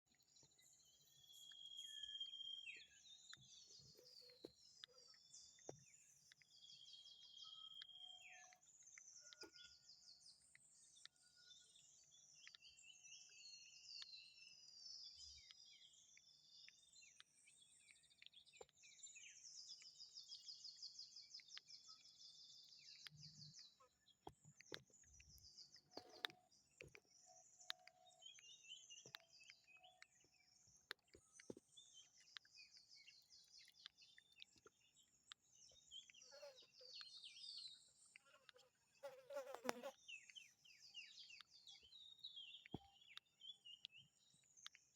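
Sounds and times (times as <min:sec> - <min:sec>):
birds chirping and trilling: 0:00.2 - 0:39.1.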